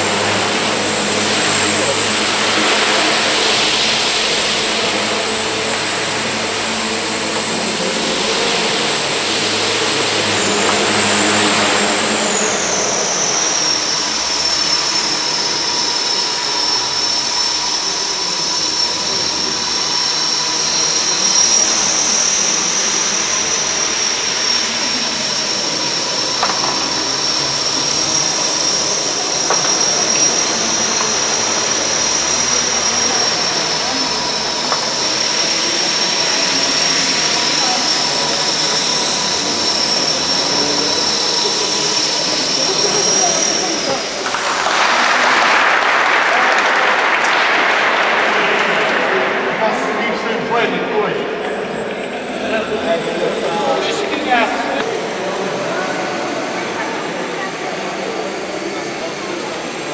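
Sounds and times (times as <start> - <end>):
model helicopter rotor whine: 0.0 - 59.9.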